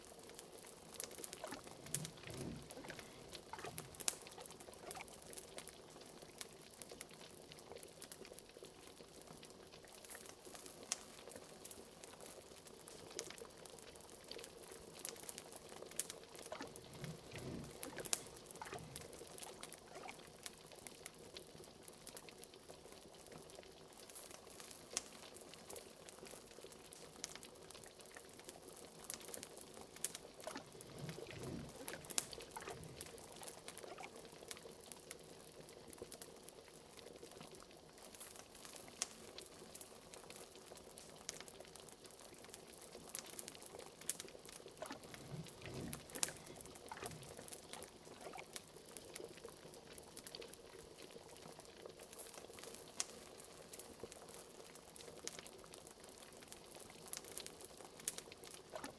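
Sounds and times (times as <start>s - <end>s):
liquid bubbling in a pot: 0.0s - 58.9s.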